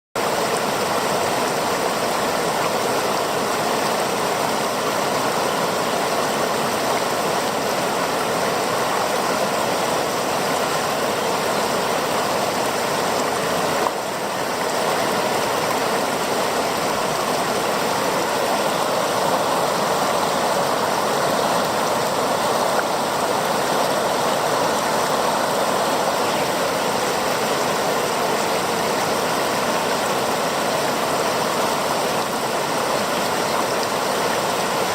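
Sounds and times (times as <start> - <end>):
mountain river rushing: 0.2 - 34.9.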